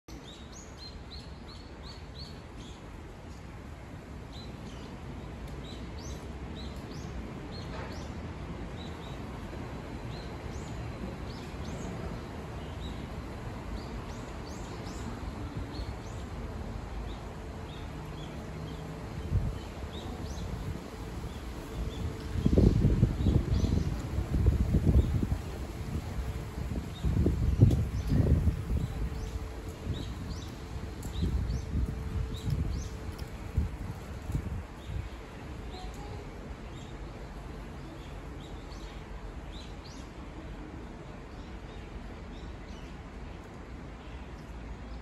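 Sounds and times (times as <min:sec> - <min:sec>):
low background noise: 0:00.1 - 0:45.0.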